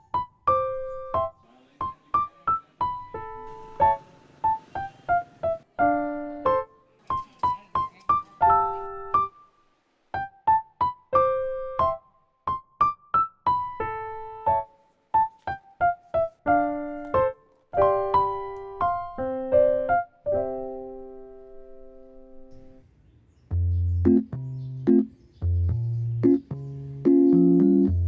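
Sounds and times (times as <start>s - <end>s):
light piano melody: 0.0s - 22.8s, 23.5s - 28.0s.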